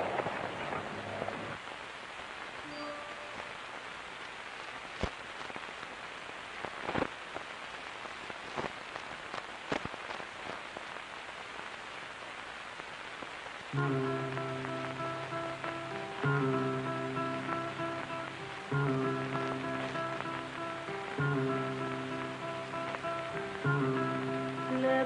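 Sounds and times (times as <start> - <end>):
film soundtrack hiss and crackles: 0.0 - 25.0.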